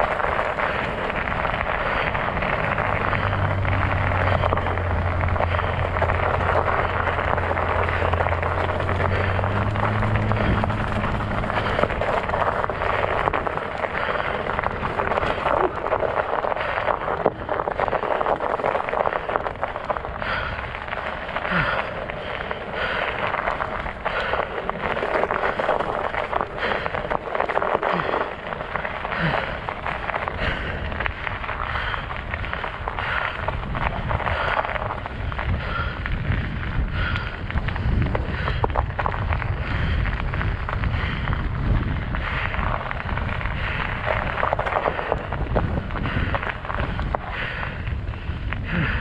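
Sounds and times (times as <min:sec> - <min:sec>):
studded bike tires crunching: 0:00.0 - 0:49.0
wind buffeting microphone: 0:00.0 - 0:49.0.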